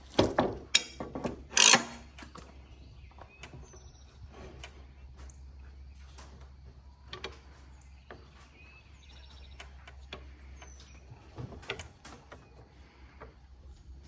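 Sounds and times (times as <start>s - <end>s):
handling knocks and clicks: 0.0s - 13.4s.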